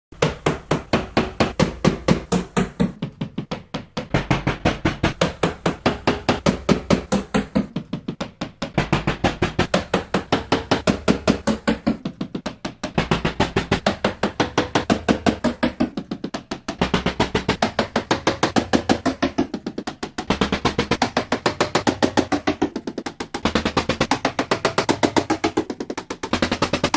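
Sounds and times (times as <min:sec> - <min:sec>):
rapid banging strikes: 0:00.2 - 0:26.9.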